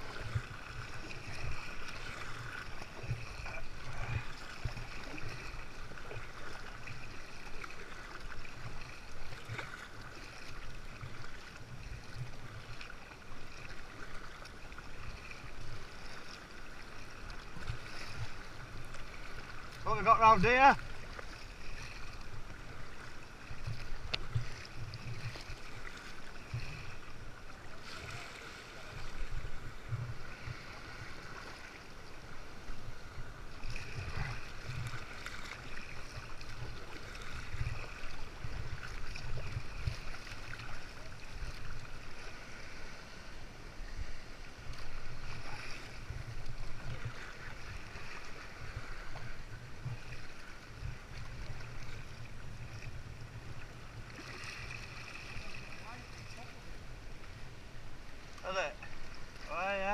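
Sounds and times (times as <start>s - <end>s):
water lapping against a kayak: 0.0s - 59.9s.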